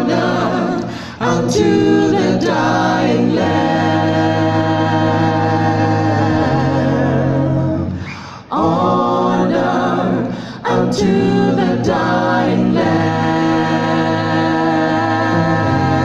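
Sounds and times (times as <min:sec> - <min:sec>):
a cappella group singing a hymn: 0:00.0 - 0:16.0.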